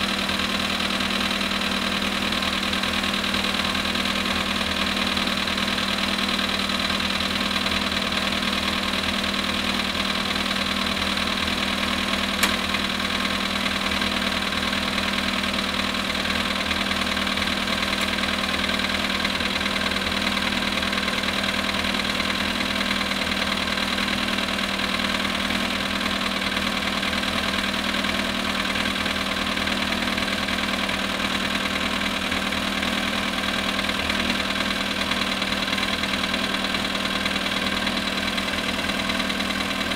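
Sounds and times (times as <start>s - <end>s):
car engine idling with knocking: 0.0s - 39.9s.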